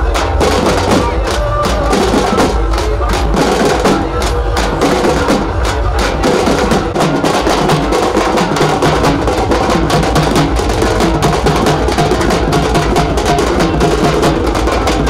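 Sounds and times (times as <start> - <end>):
loud music with fast drumming: 0.0 - 15.0.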